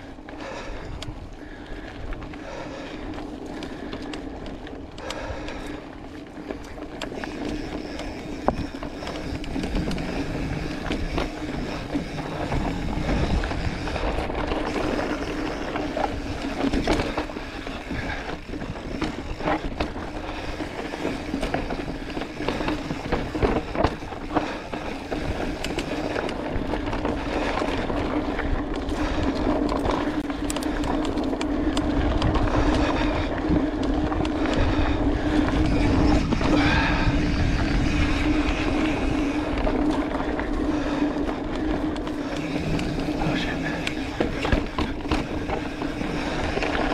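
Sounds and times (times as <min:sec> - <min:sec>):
bike knocking and rattling: 0:00.0 - 0:46.9
bike tyres rolling on dirt: 0:00.0 - 0:46.9.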